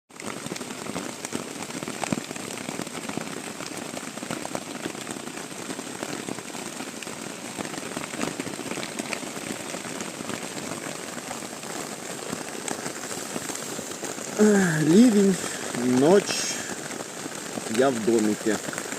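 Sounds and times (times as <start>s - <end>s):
heavy rain falling: 0.1s - 18.9s.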